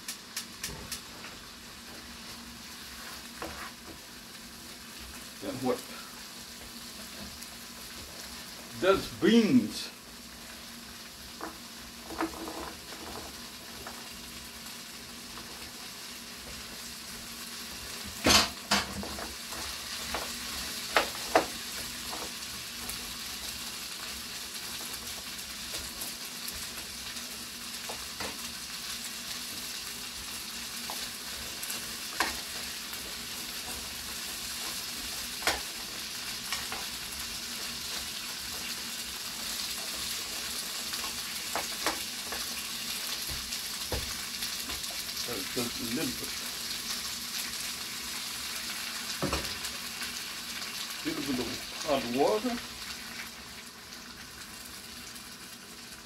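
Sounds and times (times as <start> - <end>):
green beans sizzling in a pan: 0.0 - 56.0.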